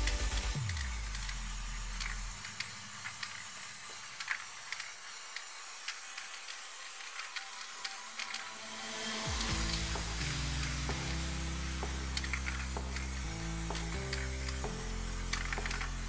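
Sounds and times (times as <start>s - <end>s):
aerosol spray paint hissing: 0.0s - 16.0s.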